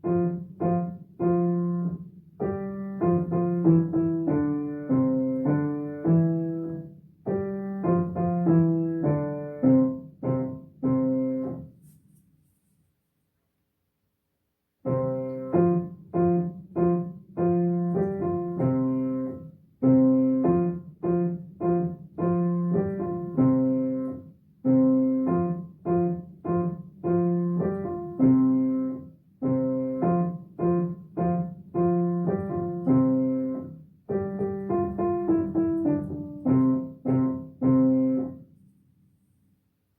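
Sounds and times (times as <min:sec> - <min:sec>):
piano melody: 0:00.0 - 0:11.8, 0:14.8 - 0:38.6.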